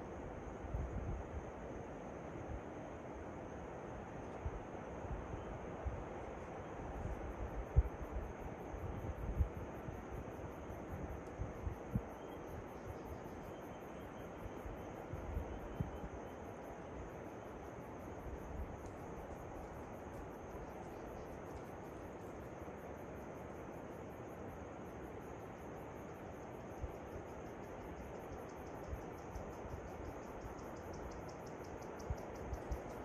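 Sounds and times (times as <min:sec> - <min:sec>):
insects chirping: 0:00.0 - 0:33.0.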